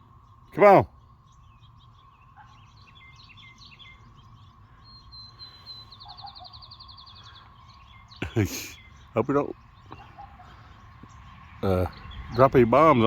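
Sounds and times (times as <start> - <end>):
faint steady hum: 0.0 - 11.2
swallows twittering: 0.0 - 13.0.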